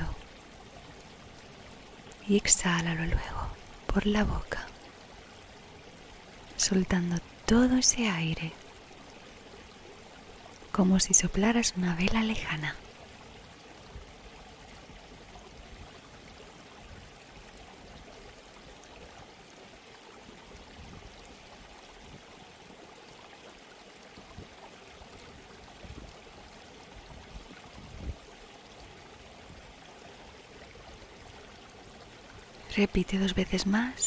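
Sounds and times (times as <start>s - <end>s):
flowing water rush: 0.0s - 34.0s.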